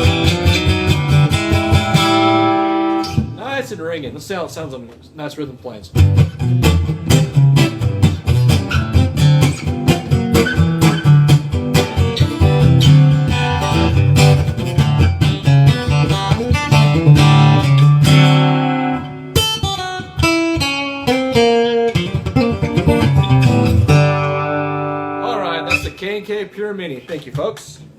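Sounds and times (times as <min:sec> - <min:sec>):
guitar chord ringing: 0:00.0 - 0:03.4, 0:06.0 - 0:26.0
acoustic guitar strumming: 0:00.0 - 0:03.7, 0:06.0 - 0:26.2
picked guitar notes: 0:00.0 - 0:03.8, 0:05.9 - 0:26.4.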